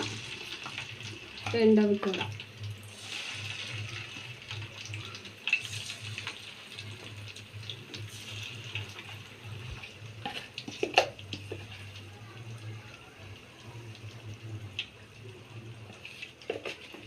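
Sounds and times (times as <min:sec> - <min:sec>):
chicken deep-frying in hot oil: 0:00.0 - 0:17.0.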